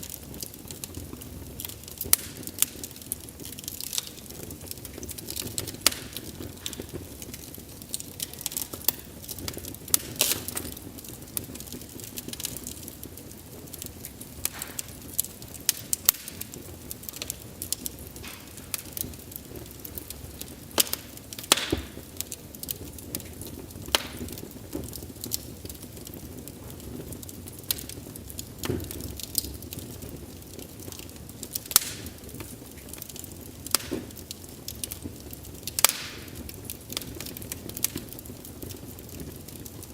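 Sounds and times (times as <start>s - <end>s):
wood fire crackling: 0.0s - 39.9s
sharp pops and snaps: 0.1s - 39.7s.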